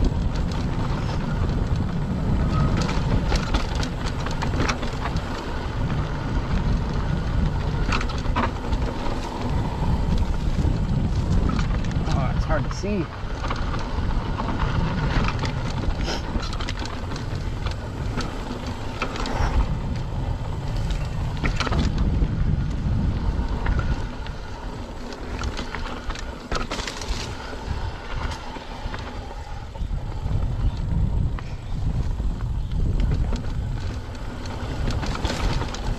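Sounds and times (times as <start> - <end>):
bike clicks and rattles: 0.0 - 35.9
tyres crunching on dirt: 0.0 - 35.9
wind buffeting microphone: 0.0 - 35.9.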